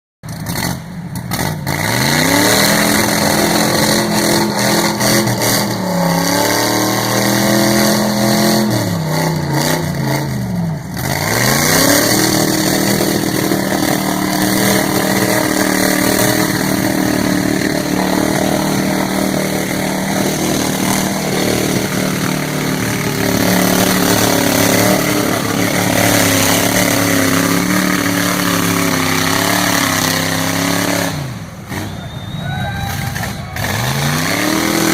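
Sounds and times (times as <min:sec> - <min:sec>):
truck engine revving hard: 0:00.3 - 0:34.9.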